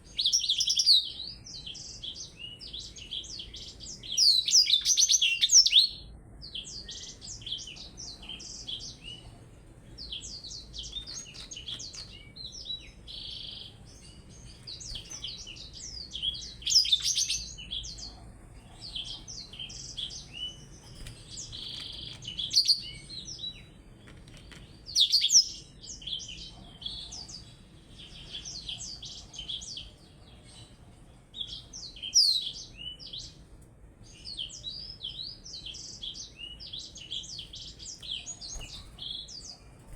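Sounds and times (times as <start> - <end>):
songbirds twittering: 0.0 - 39.9.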